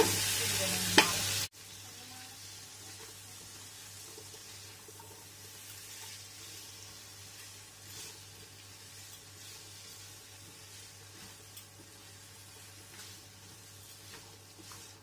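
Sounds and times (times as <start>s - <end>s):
spatula stirring in a wok: 0.0s - 15.0s
vegetables sizzling in a wok: 0.0s - 15.0s.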